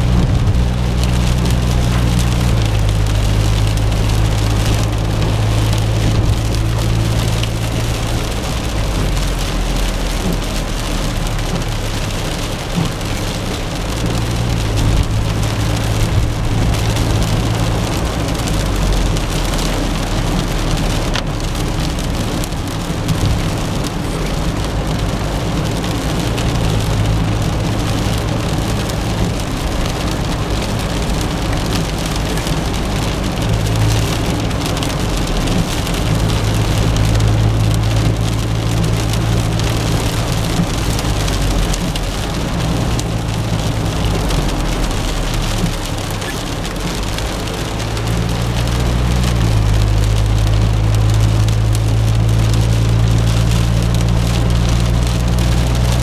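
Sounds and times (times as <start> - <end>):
car engine and road drone: 0.0 - 56.0
rain and wet tyres hissing: 0.0 - 56.0.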